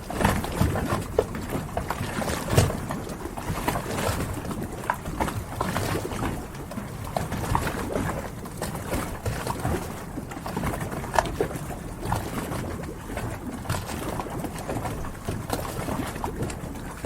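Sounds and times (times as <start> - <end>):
low rumble of water and wind: 0.0 - 17.0.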